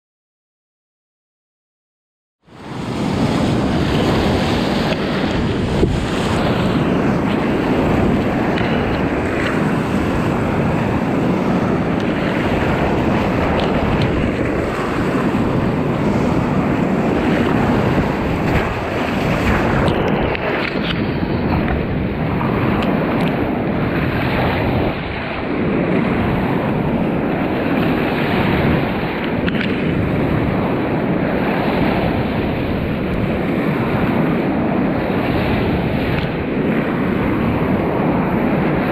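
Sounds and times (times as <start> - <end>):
water rushing around kayak: 2.4 - 38.9
wind noise on microphone: 2.4 - 38.9.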